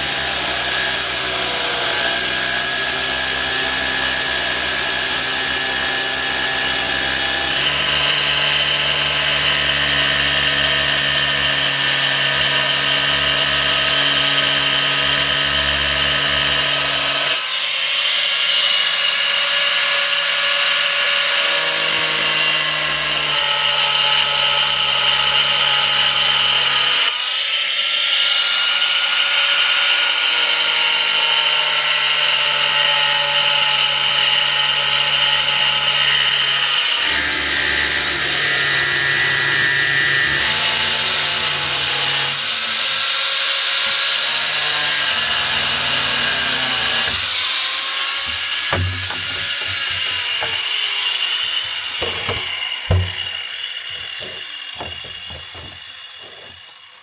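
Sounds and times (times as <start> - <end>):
angle grinder cutting plastic: 0.0 - 57.0.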